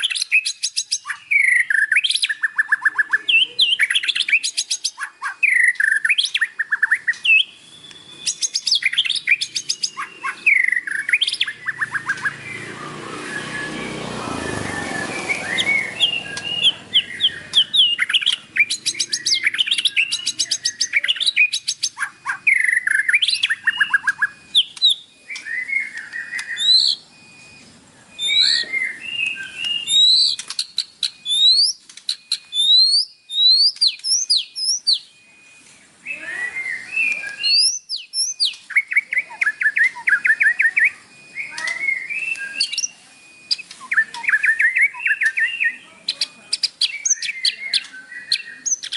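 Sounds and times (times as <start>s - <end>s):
bird singing trills and whistles: 0.0s - 48.9s.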